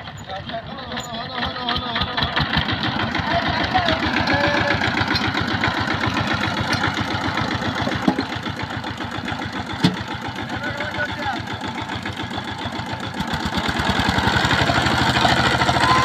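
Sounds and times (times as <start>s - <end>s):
diesel tiller engine running: 0.0s - 16.0s.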